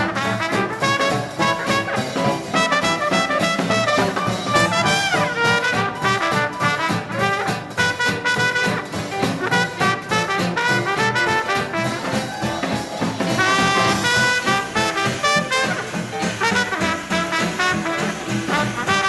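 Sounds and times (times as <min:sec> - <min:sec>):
drum kit beat: 0:00.0 - 0:19.0
jazz dance band playing: 0:00.0 - 0:19.0
trumpet lead: 0:00.0 - 0:19.0
horn note sliding down: 0:00.1 - 0:07.3, 0:08.0 - 0:19.0.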